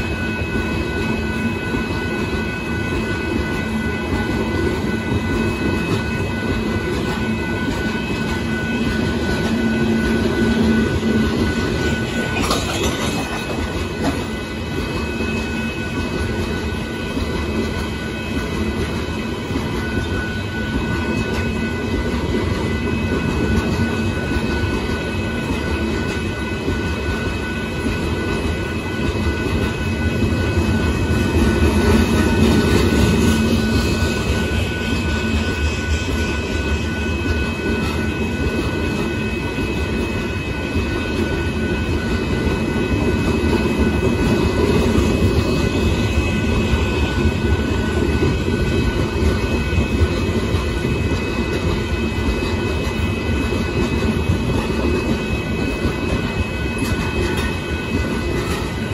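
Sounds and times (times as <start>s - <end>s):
steady high-pitched tones: 0.0s - 58.9s
train wheels rumbling on rail: 0.0s - 58.9s.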